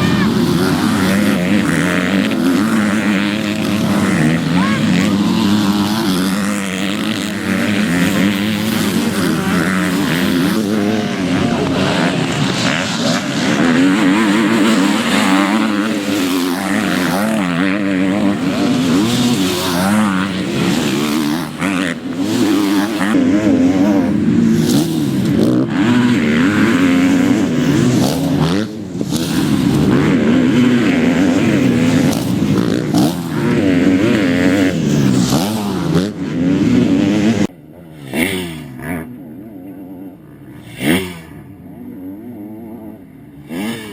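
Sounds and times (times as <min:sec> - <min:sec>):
motocross bikes revving: 0:00.0 - 0:43.9.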